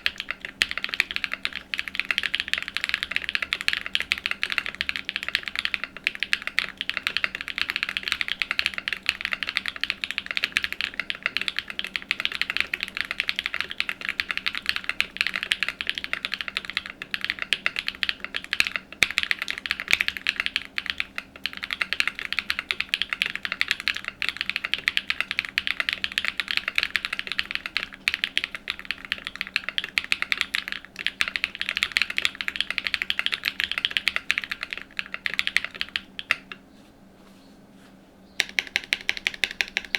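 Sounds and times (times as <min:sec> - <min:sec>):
fast mechanical keyboard typing: 0:00.0 - 0:36.6, 0:38.4 - 0:39.9.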